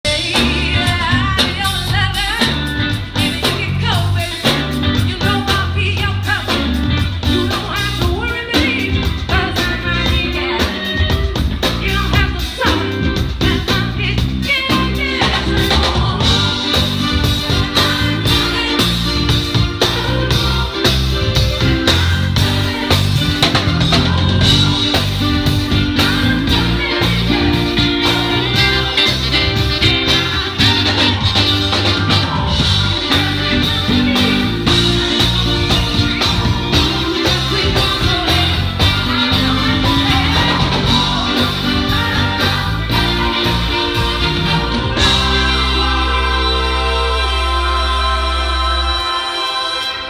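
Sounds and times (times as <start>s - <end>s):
live band playing upbeat song: 0.0s - 50.0s
person singing: 0.0s - 50.0s.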